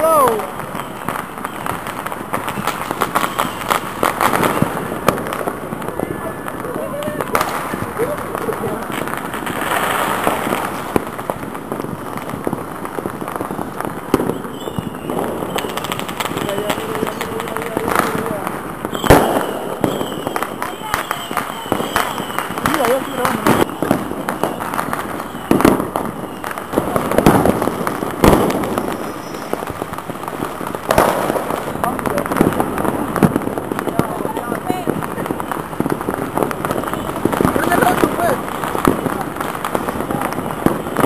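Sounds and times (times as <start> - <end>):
distant fireworks crackling: 0.0 - 41.0
sharp firework bangs: 0.0 - 41.0.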